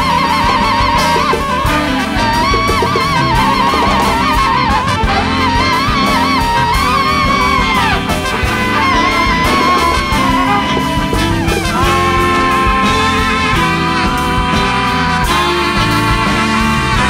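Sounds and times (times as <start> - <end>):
jazz band playing live: 0.0 - 17.0
wailing lead horn line: 0.0 - 17.0.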